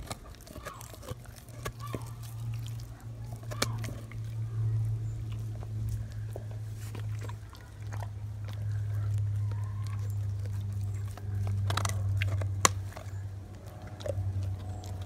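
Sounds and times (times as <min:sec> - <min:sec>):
dog gnawing a bone: 0:00.0 - 0:15.0
steady low hum: 0:00.0 - 0:15.0.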